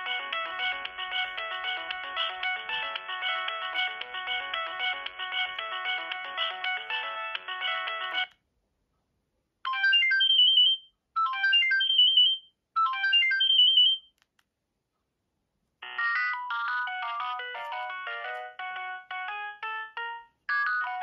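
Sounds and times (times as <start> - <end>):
mobile phone ringtones: 0.0 - 8.3, 9.7 - 14.1, 15.8 - 21.0.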